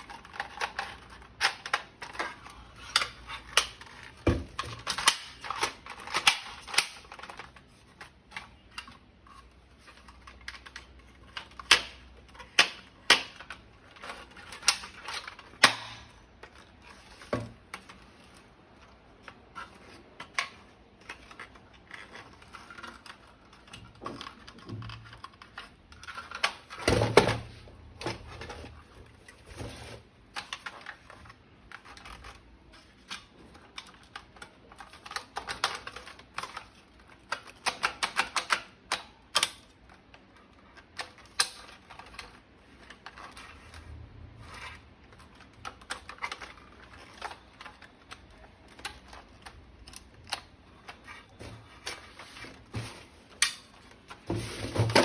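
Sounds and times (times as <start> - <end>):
plastic toy clicking and rattling: 0.0 - 26.9, 30.2 - 52.3.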